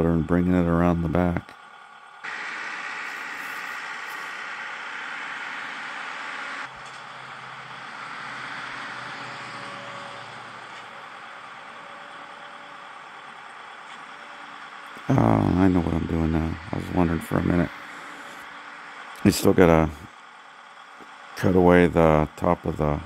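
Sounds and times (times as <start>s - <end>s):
skid loader engine running: 0.0s - 23.0s.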